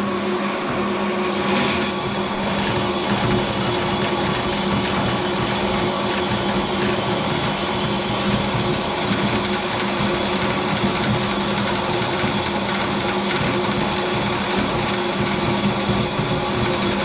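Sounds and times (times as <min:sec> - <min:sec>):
drain-cleaning machine motor hum: 0:00.0 - 0:17.0.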